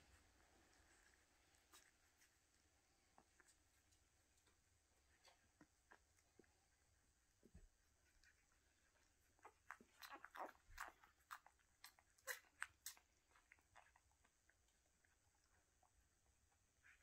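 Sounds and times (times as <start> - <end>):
dog licking puppies: 0.0 - 17.0.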